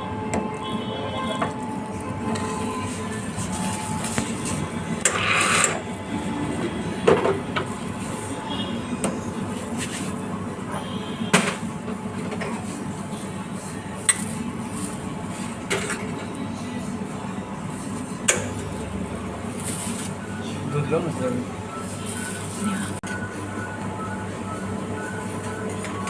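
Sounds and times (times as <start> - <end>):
coffee machine humming: 0.0 - 26.0.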